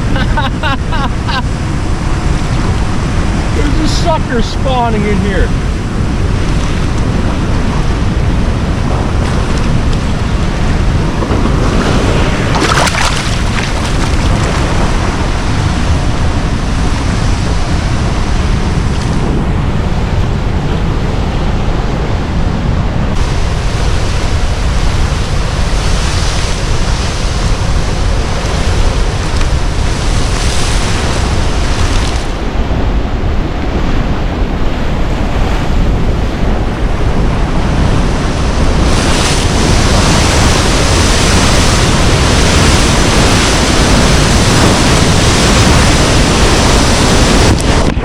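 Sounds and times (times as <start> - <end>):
river water rushing: 0.0 - 20.2, 20.9 - 48.0.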